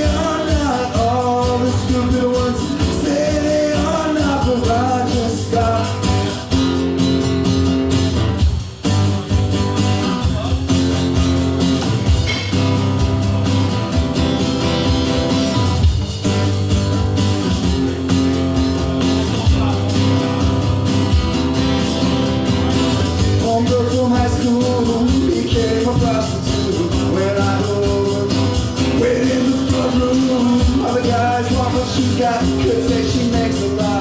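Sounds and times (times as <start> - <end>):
guitar playing: 0.0 - 34.0
live band playing instrumental: 0.0 - 34.0.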